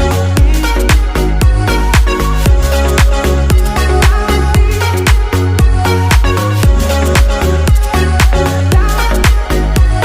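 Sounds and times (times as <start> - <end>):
upbeat electronic dance music: 0.0 - 10.0.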